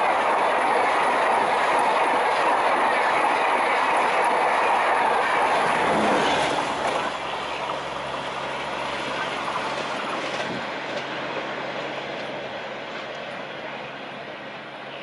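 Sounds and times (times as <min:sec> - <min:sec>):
clickety-clack over rail joints: 0:00.0 - 0:15.0
express train passing: 0:00.0 - 0:15.0.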